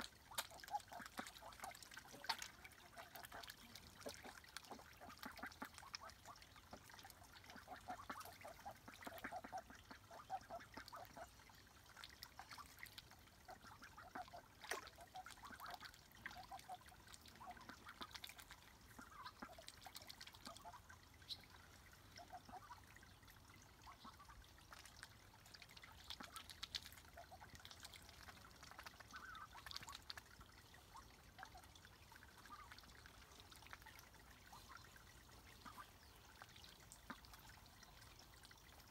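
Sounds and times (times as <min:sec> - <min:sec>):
ducks splashing in water: 0:00.0 - 0:38.9.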